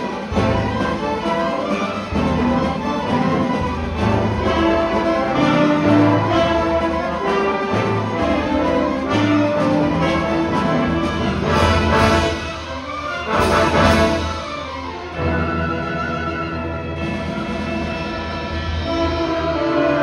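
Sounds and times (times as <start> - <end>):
orchestra playing: 0.0 - 20.0.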